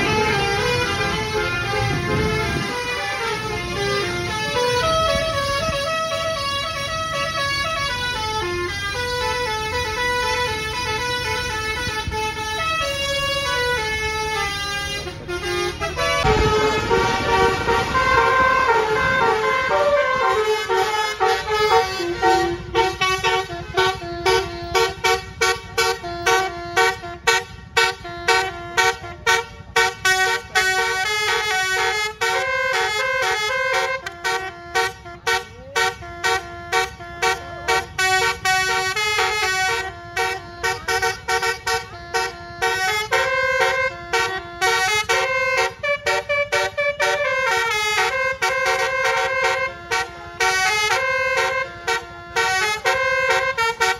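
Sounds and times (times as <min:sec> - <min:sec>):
bus horn playing a melody: 0:00.0 - 0:53.9.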